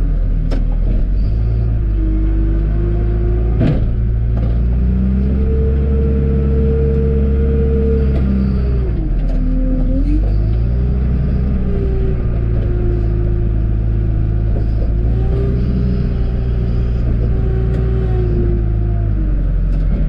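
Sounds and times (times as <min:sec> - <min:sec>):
diesel engine revving under load: 0:00.0 - 0:20.0.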